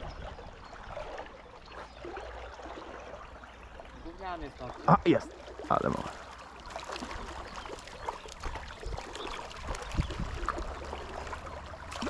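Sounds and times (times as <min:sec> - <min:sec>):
low water rumble: 0:00.0 - 0:12.0
river water splashing: 0:00.0 - 0:12.0.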